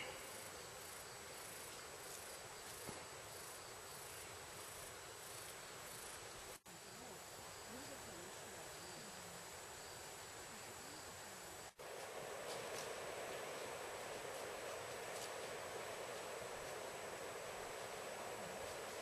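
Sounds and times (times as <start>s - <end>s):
insect chirping: 0.0s - 19.0s
steady outdoor hiss: 0.0s - 19.0s.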